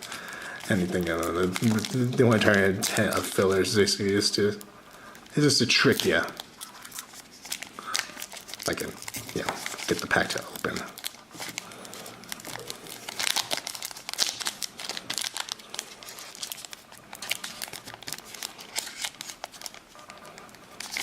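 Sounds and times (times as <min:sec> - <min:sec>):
card pack wrapper crinkling: 0:00.0 - 0:21.0.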